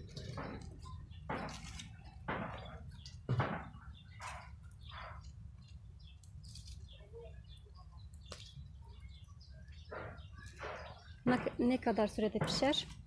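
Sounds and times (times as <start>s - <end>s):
fire pops: 0.0s - 13.0s
wood fire crackling: 0.0s - 13.0s.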